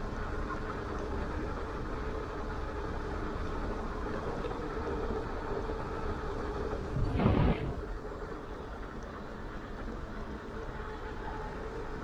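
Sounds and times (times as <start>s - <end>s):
faint even hum: 0.0s - 12.0s
wind and tyres on asphalt: 0.0s - 12.0s.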